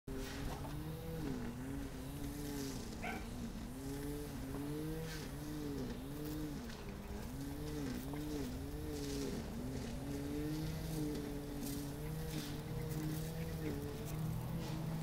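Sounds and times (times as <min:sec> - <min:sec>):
motor droning with wavering pitch: 0:00.1 - 0:15.0.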